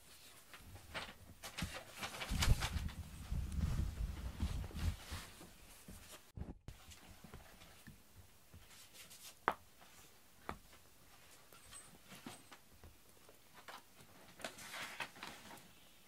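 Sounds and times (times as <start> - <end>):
cat rustling and scuffling: 0.0 - 16.0.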